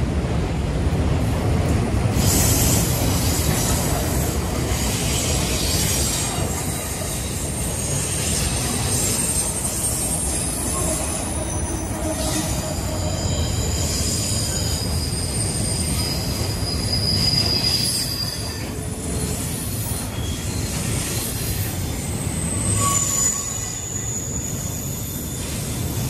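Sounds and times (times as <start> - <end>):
low rumble of rail cars: 0.0 - 26.0
train wheels squealing on rails: 2.0 - 26.0.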